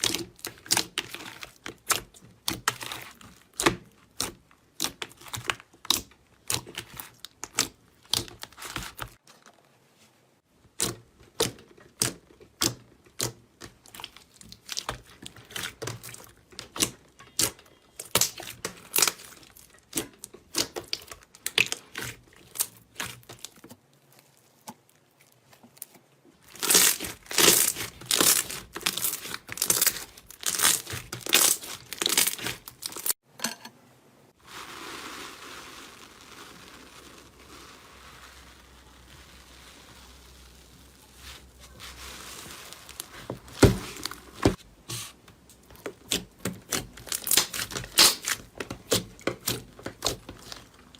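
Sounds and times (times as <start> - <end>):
brittle material crackling and crunching: 0.0 - 9.7, 10.7 - 33.2, 34.4 - 44.6, 45.5 - 50.9.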